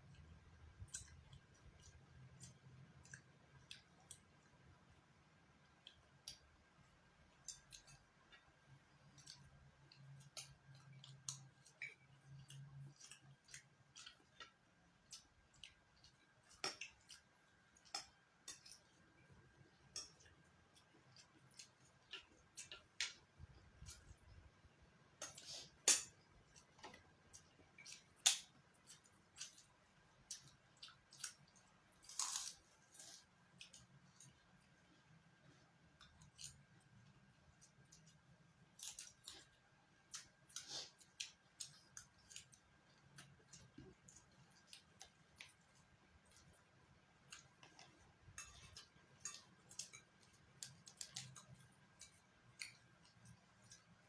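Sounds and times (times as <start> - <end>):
chewing and mouth sounds: 0.0 - 5.0, 5.6 - 54.0
eating clicks and smacks: 0.0 - 54.0.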